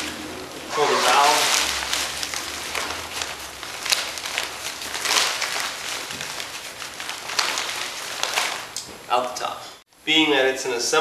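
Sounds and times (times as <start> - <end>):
fabric and plastic crinkling: 0.0 - 9.2.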